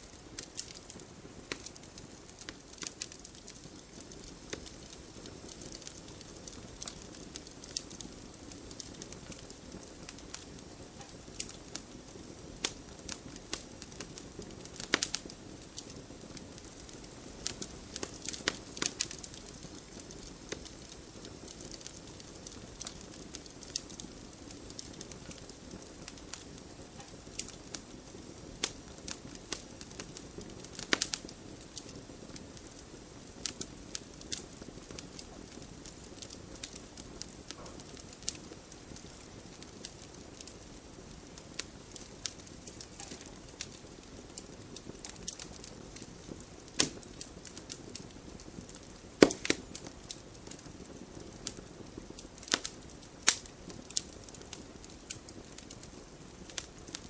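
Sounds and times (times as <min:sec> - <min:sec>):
fire crackling and popping: 0:00.0 - 0:57.0
fire flames hissing: 0:00.0 - 0:57.0.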